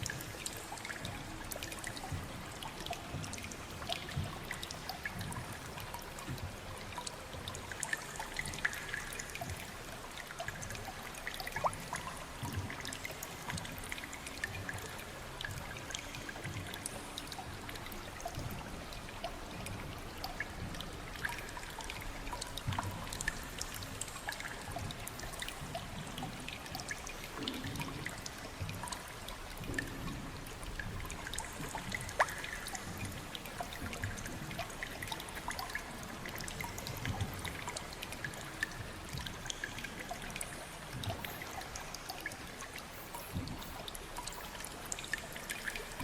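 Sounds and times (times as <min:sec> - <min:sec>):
water drips: 0:00.0 - 0:46.0
water trickling: 0:00.0 - 0:46.0.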